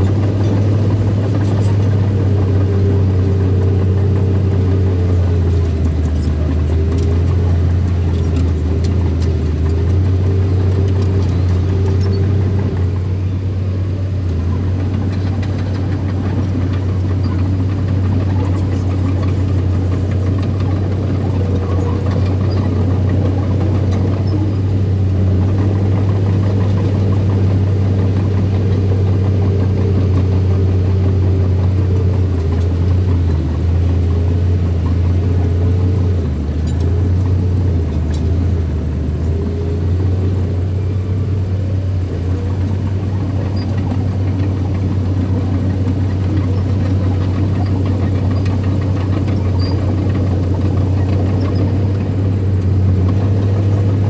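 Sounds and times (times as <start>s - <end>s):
earth-moving machine engine running: 0.0s - 54.0s.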